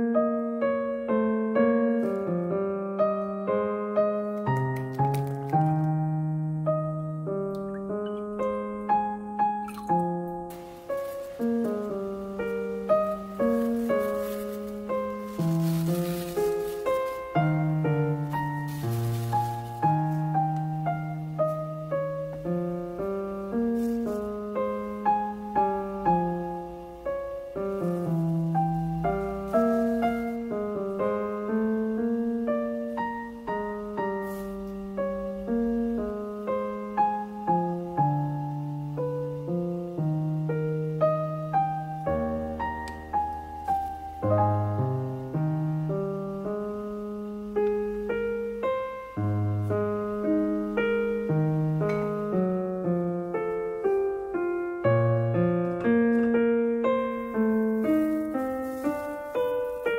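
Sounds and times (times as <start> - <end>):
gentle piano music: 0.0 - 59.9.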